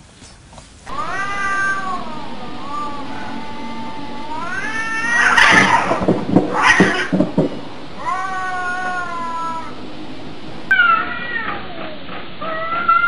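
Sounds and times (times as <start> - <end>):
cat yowling: 0.9 - 10.0, 10.7 - 13.0.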